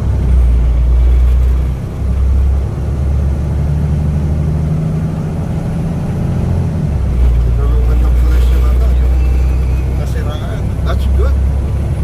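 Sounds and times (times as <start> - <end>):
road noise: 0.0 - 12.0
truck engine droning: 0.0 - 12.0.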